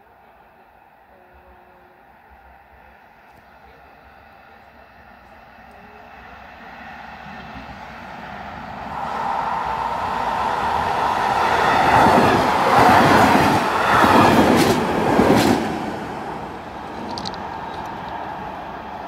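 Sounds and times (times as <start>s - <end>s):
train wheels rushing on rails: 2.2s - 19.0s.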